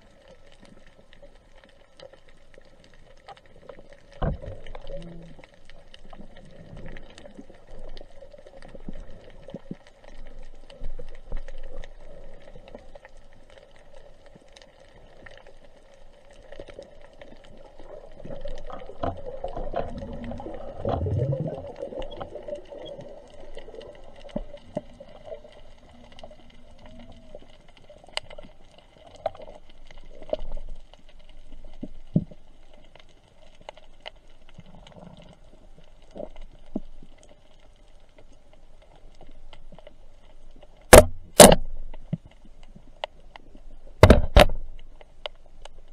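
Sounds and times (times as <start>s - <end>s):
underwater clicks and crackles: 0.0s - 45.9s
underwater rumbling and gurgling: 0.0s - 45.9s.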